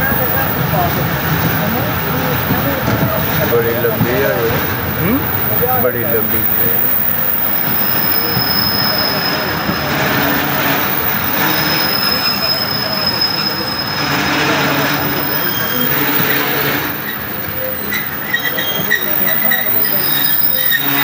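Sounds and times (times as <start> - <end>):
high wheel squeal: 0.0 - 21.0
train rolling on track: 0.0 - 21.0.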